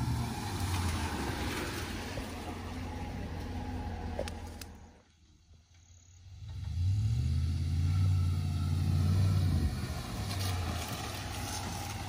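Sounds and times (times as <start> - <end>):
pickup truck engine droning: 0.0 - 12.0.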